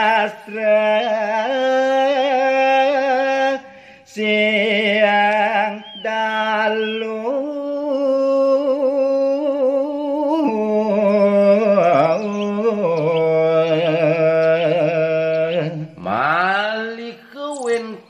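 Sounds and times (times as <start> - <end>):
man singing melismatic note: 0.0 - 18.0.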